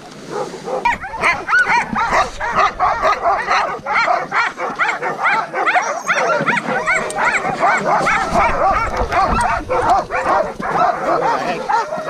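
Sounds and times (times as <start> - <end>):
sled dogs yelping and barking: 0.2 - 12.0.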